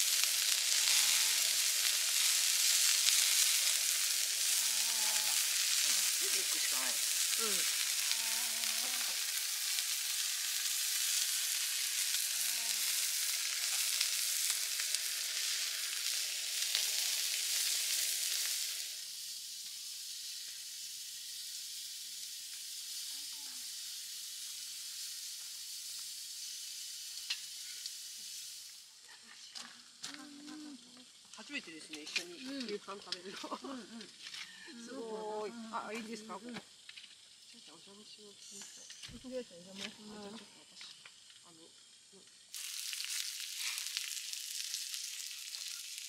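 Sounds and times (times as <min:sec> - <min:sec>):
beef sizzling on griddle pan: 0:00.0 - 0:46.0.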